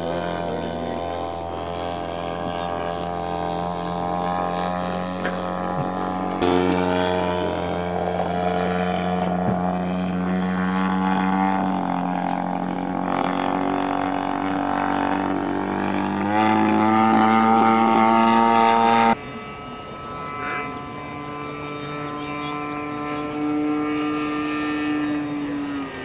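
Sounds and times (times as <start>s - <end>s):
model plane engine droning: 0.0s - 26.0s.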